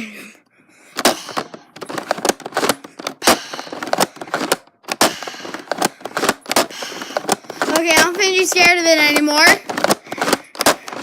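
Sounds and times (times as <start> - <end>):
plastic blaster clicks and clacks: 1.0 - 11.0.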